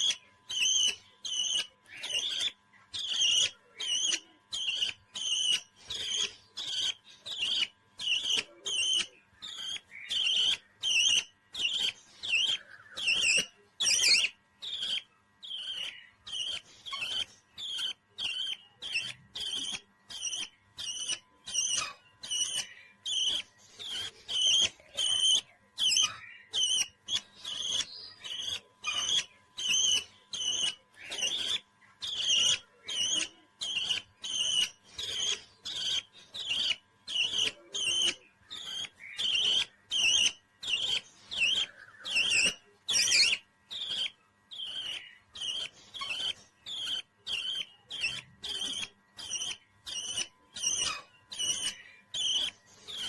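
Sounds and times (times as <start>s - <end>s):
parrot chirping: 0.0s - 53.0s.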